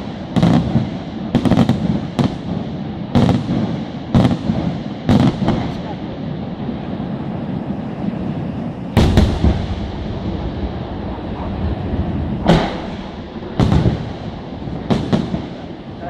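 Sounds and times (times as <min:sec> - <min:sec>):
firework bangs: 0:00.0 - 0:16.0
rumble of firework bursts: 0:00.0 - 0:16.0.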